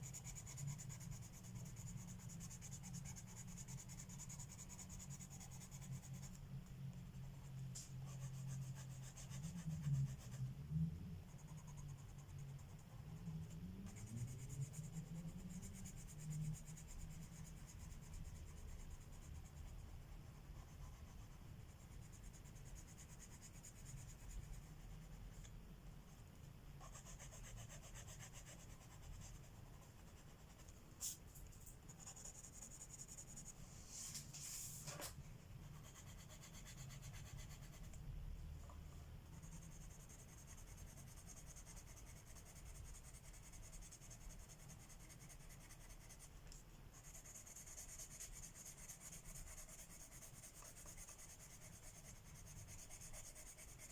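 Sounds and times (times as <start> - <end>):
pencil scratching on paper: 0.0 - 6.4, 7.0 - 10.4, 11.3 - 25.5, 26.8 - 31.2, 31.9 - 35.1, 35.7 - 38.0, 38.9 - 53.9.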